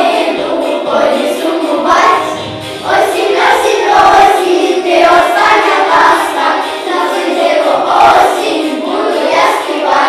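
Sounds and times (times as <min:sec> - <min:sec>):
children singing in unison: 0:00.0 - 0:10.0.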